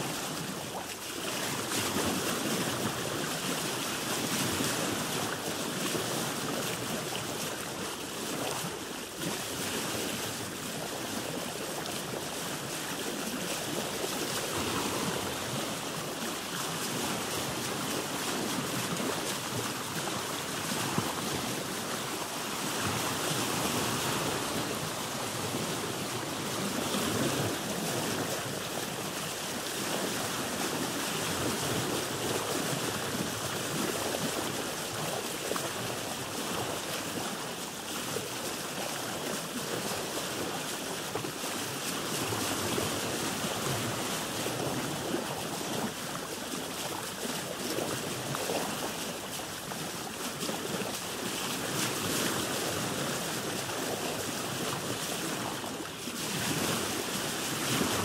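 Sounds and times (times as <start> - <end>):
water lapping against boat hull: 0.0 - 58.0.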